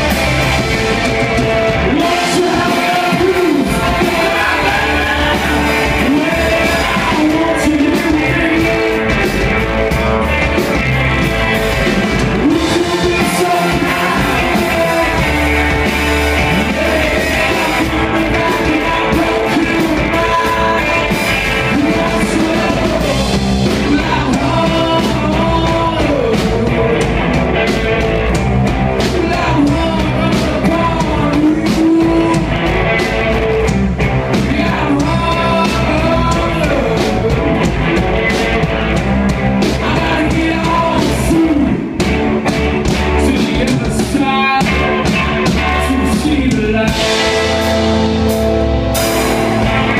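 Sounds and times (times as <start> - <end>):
person singing: 0.0 - 10.8, 11.8 - 27.8, 29.0 - 33.2, 34.3 - 39.0, 39.6 - 42.2, 42.8 - 49.9
bass: 0.0 - 49.9
distorted electric guitars: 0.0 - 49.9
drums: 0.0 - 49.9.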